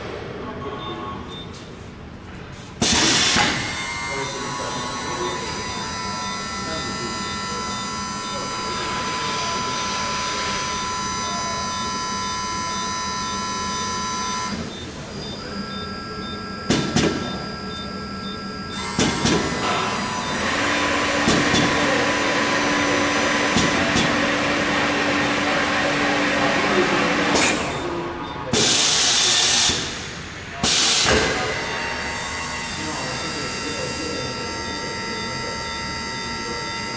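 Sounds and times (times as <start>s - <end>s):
steady machine hum: 2.8s - 36.9s
machine motors whining: 2.9s - 29.9s, 30.7s - 36.9s.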